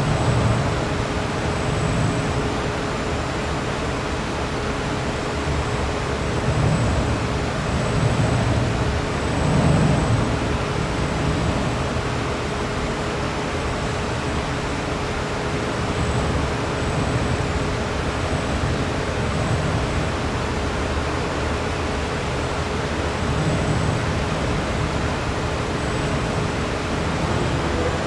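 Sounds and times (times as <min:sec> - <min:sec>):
electric fans rushing and humming: 0:00.0 - 0:28.0.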